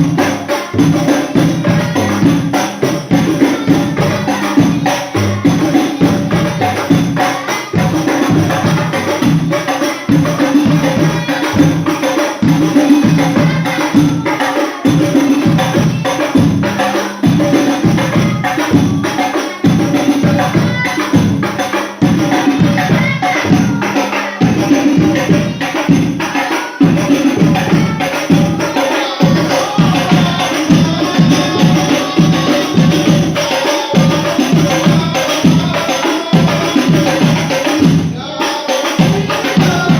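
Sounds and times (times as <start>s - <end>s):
frame drums with jingles: 0.0s - 39.9s.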